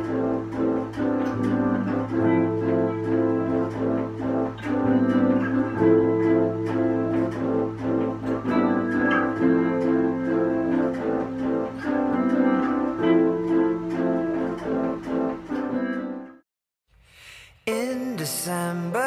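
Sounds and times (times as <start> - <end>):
electric guitar: 0.0 - 16.4
keyboard playing chords: 0.0 - 16.4.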